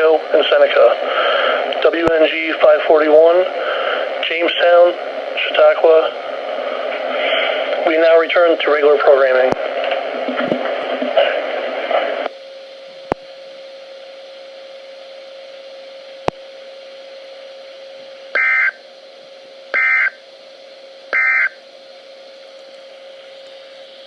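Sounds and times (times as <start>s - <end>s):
radio hiss: 0.0s - 14.0s, 14.8s - 19.0s, 19.6s - 24.0s
steady low hum: 0.0s - 24.0s.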